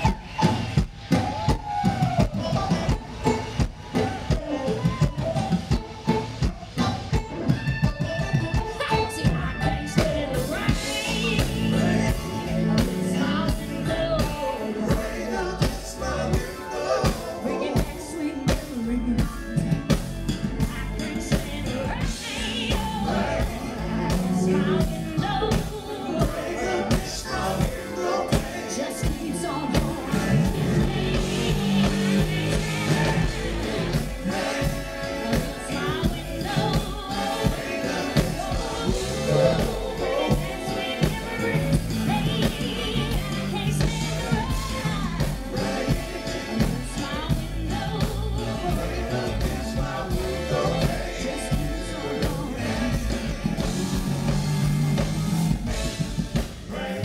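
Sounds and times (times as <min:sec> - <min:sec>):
drum beat: 0:00.0 - 0:57.0
electric bass guitar: 0:00.0 - 0:57.0
woman singing: 0:02.4 - 0:33.5, 0:34.2 - 0:50.6.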